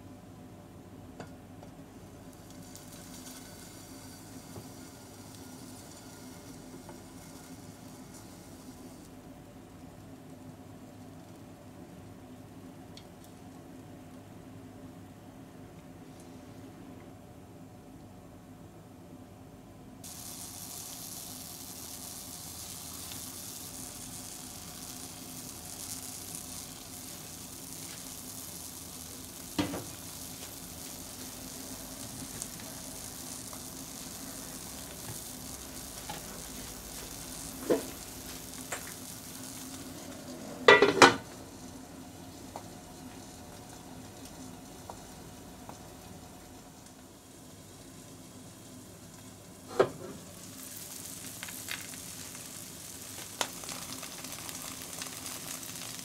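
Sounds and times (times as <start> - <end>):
egg sizzling in hot oil: 1.6 - 15.2, 20.0 - 56.0.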